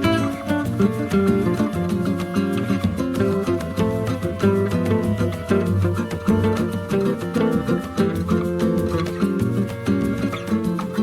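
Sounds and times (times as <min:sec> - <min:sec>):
plucked guitar: 0:00.0 - 0:11.0
steady beat: 0:00.0 - 0:11.0
upbeat latin instrumental music: 0:00.0 - 0:11.0.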